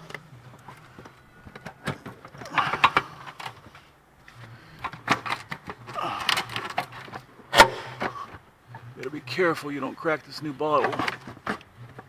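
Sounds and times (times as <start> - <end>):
hard plastic knocking and scraping: 0.0 - 9.2, 10.8 - 12.0
low steady hum: 0.0 - 12.0.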